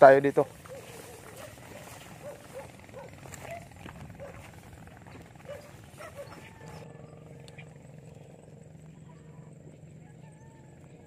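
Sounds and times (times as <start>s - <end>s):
low steady hum: 0.0s - 11.0s
faint animal calls: 0.5s - 11.0s.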